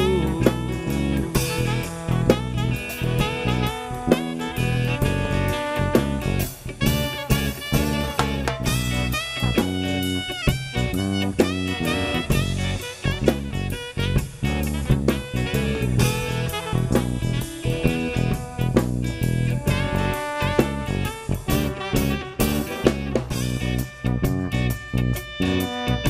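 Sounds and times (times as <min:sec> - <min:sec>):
drum kit with cymbal crashes: 0:00.0 - 0:26.0
guitar: 0:00.0 - 0:26.0
saxophone: 0:00.0 - 0:26.0
trombone: 0:00.0 - 0:26.0.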